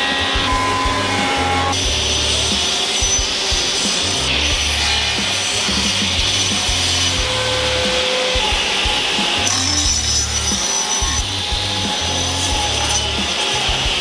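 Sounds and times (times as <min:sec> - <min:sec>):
table saw cutting wood: 0:00.0 - 0:14.0.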